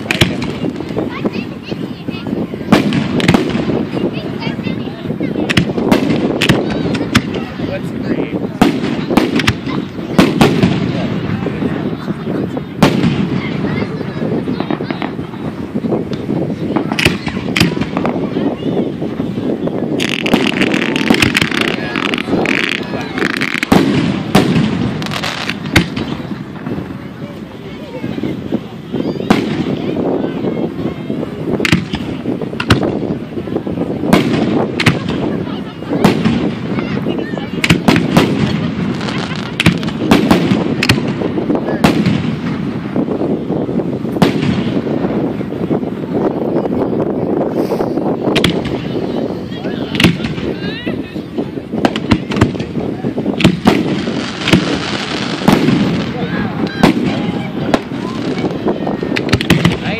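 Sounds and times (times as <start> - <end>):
firework bangs: 0.0 - 59.9
rumble of firework bursts: 0.0 - 59.9.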